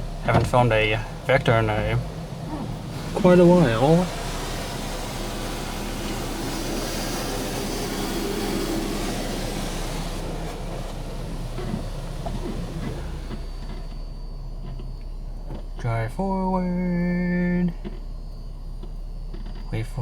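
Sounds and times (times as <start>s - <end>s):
car wash machinery hiss: 0.0s - 20.0s
low hum: 0.0s - 20.0s.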